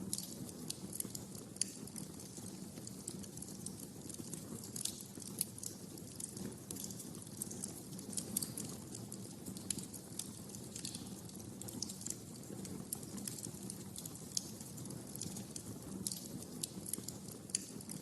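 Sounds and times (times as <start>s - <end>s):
fire pops and snaps: 0.0s - 18.0s
wood fire crackling: 0.0s - 18.0s.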